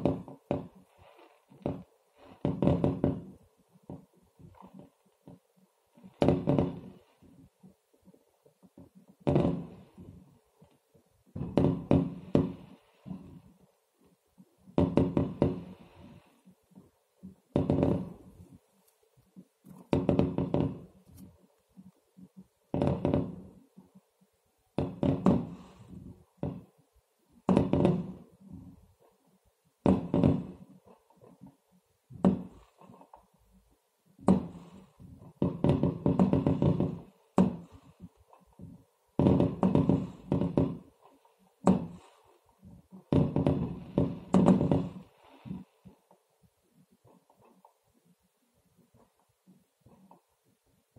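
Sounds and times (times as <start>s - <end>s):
muffled fireworks bangs: 0.0s - 10.4s, 11.2s - 13.6s, 14.6s - 18.7s, 19.3s - 23.9s, 24.7s - 29.0s, 29.8s - 33.2s, 34.1s - 46.1s.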